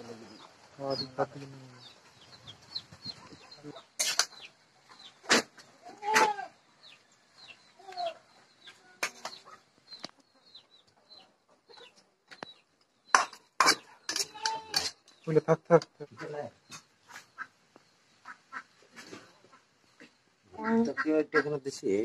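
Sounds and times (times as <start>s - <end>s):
small bird chirping: 0.0s - 5.9s, 6.5s - 21.0s
chickens clucking: 0.0s - 22.0s.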